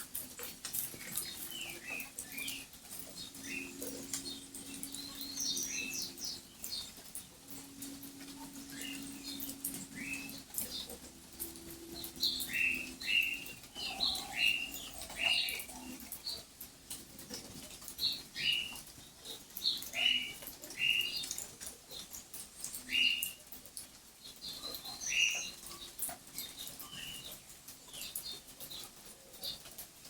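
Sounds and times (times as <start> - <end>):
bird chirping: 0.4 - 16.5, 17.3 - 23.4, 24.2 - 29.7.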